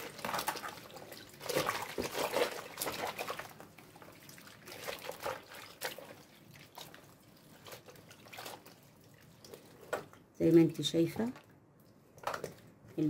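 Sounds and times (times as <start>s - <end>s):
water splashing in a basin: 0.0s - 12.8s.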